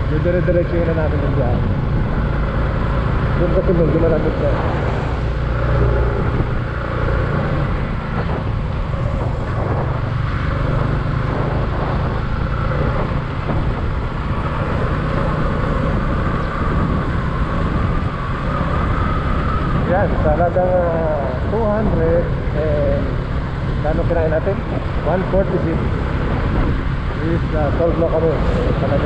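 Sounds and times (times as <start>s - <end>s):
motorcycle engine hum: 0.0s - 29.0s
wind and road noise: 0.0s - 29.0s.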